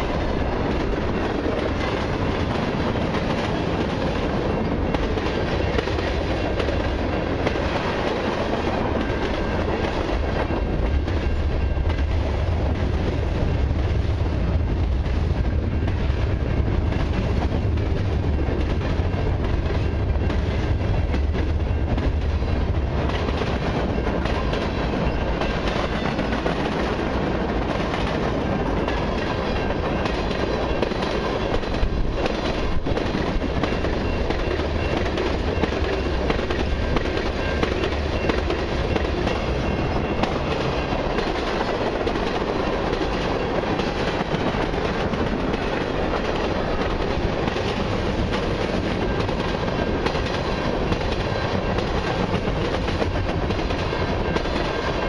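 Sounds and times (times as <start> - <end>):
deep train rumble: 0.0 - 55.0
train wheels clattering over rail joints: 0.0 - 55.0.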